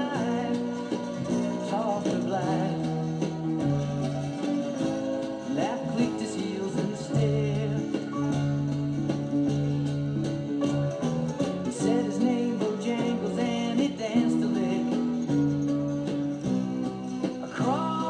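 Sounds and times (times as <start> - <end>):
country folk guitar music: 0.0 - 18.0.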